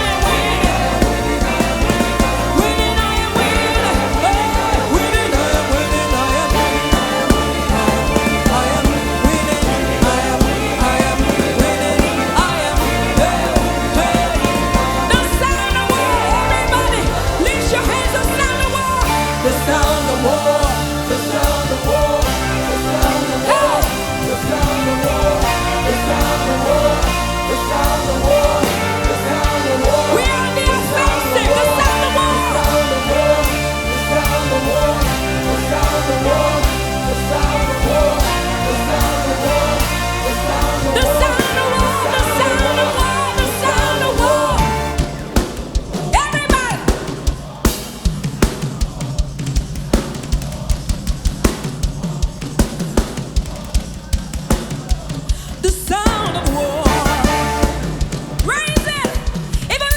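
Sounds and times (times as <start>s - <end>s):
person singing: 0.0s - 49.2s, 54.9s - 59.9s
full band playing: 0.0s - 59.9s
sustained bass: 0.0s - 59.9s.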